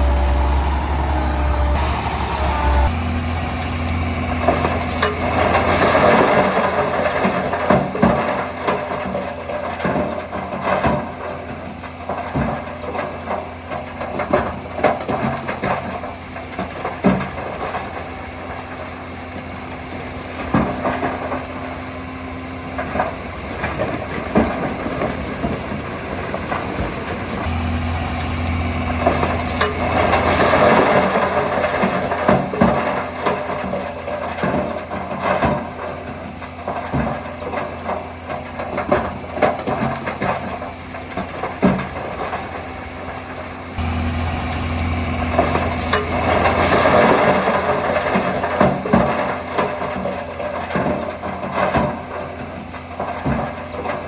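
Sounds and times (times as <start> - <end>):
bulldozer diesel engine running: 0.0 - 54.0
tracks and blade clanking: 0.0 - 54.0.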